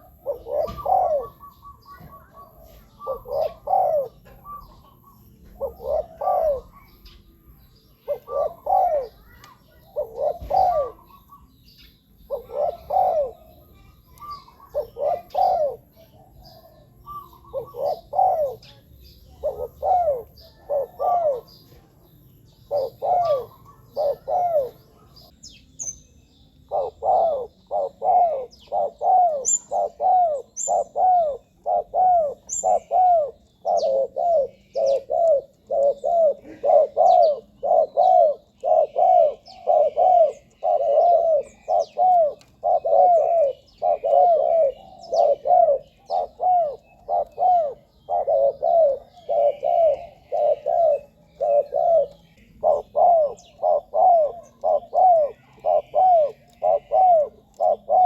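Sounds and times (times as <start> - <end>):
dove cooing: 0.0 - 25.3, 26.7 - 58.0
small birds chirping: 0.0 - 58.0.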